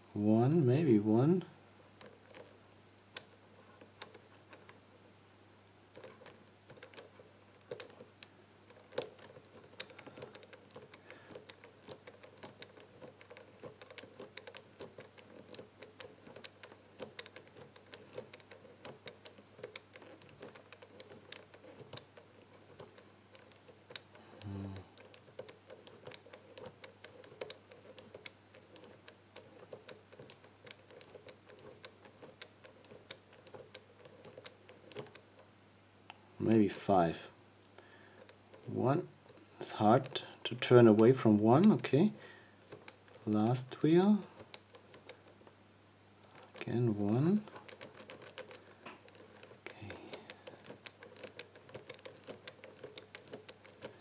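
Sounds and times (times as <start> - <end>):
combination lock wheel clicking: 2.0 - 4.8, 5.9 - 35.5, 37.7 - 45.6, 46.2 - 54.0.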